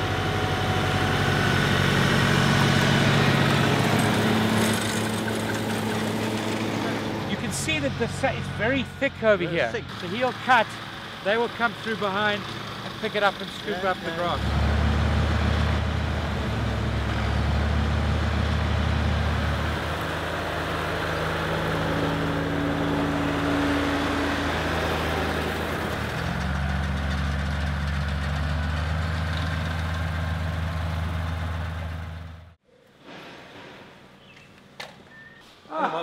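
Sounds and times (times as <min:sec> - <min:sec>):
tractor engine running: 0:00.0 - 0:32.6.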